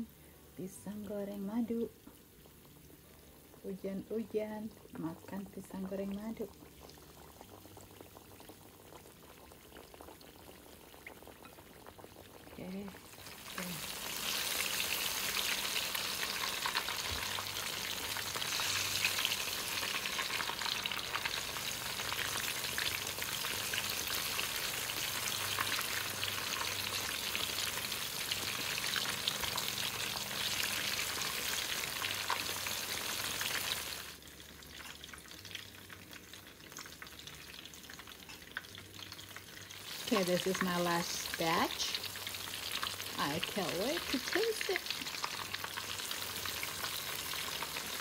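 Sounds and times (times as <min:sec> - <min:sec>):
food deep-frying in oil: 0:00.7 - 0:48.0.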